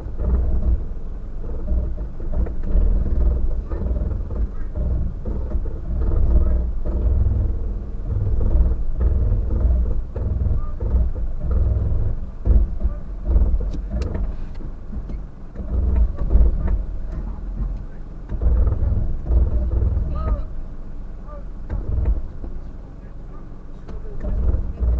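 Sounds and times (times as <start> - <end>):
knocks and rattles: 0.0 - 20.6, 21.6 - 22.7, 23.8 - 24.9
vehicle driving over gravel: 0.0 - 20.8.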